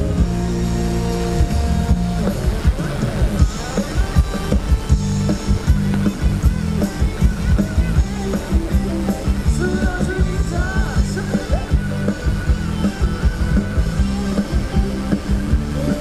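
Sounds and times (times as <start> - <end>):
live band dance music over loudspeakers: 0.0 - 16.0.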